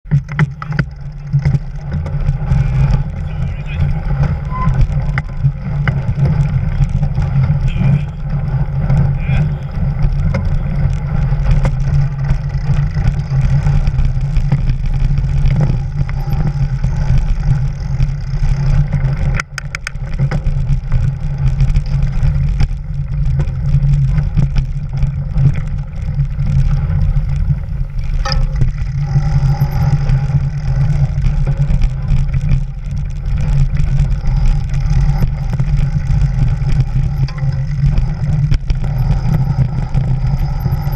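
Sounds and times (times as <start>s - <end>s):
tyres rolling over snowy trail: 0.0s - 40.9s.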